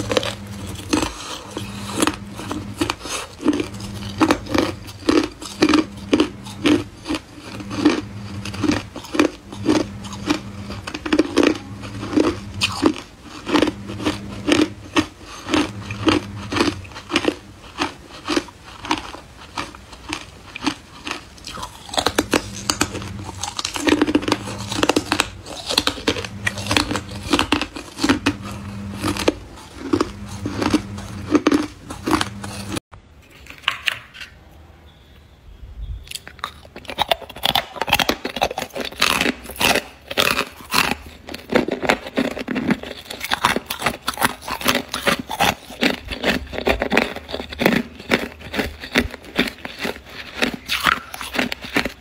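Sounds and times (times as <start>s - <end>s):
ice being chewed: 0.0s - 34.4s, 36.0s - 52.0s.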